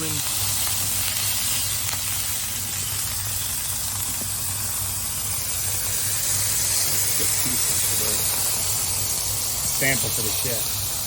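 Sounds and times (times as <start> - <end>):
cheese sizzling on a griddle: 0.0 - 11.0.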